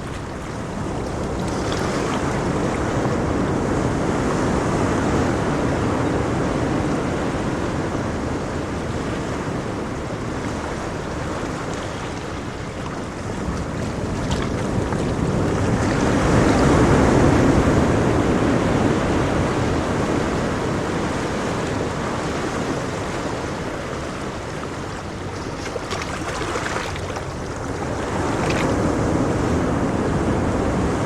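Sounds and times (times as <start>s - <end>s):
ocean waves washing: 0.0s - 31.0s.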